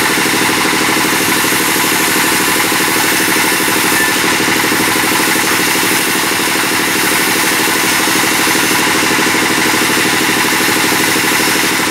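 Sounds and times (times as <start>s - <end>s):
bandsaw running: 0.0s - 11.9s.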